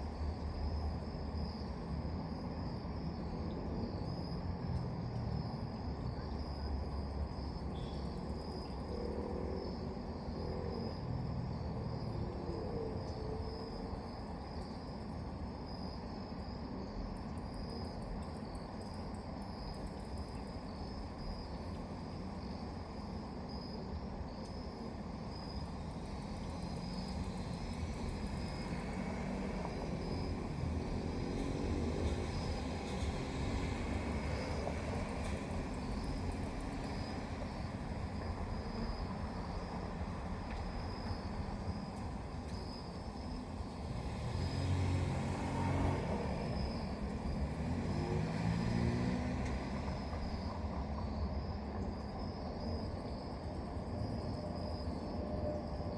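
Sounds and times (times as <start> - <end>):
crickets chirping: 0.0 - 55.9
distant traffic hum: 0.0 - 55.9.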